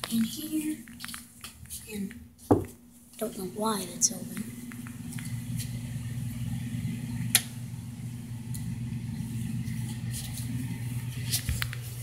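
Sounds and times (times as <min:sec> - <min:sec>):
household machinery humming: 0:01.9 - 0:12.0.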